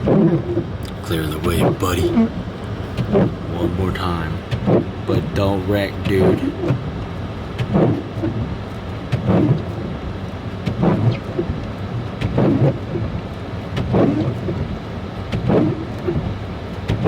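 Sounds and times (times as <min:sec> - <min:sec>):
low rumble inside car: 0:00.0 - 0:17.0
windshield wipers swishing: 0:00.0 - 0:17.0.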